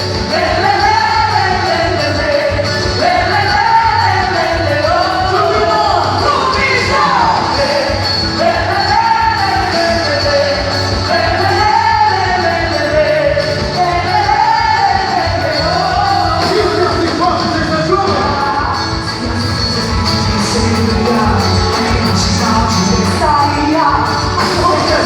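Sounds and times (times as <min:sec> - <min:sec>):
person singing over a beat: 0:00.0 - 0:25.0.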